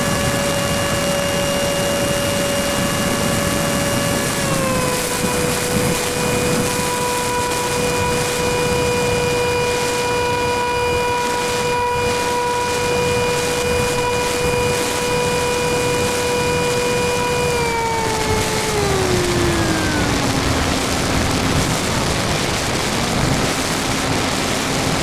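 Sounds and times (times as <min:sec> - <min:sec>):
electric fan motor whining: 0:00.0 - 0:25.0
rushing wind noise: 0:00.0 - 0:25.0.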